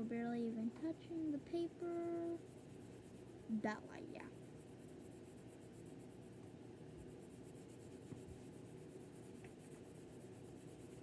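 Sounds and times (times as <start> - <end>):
pencil scratching on paper: 0.1 - 11.0.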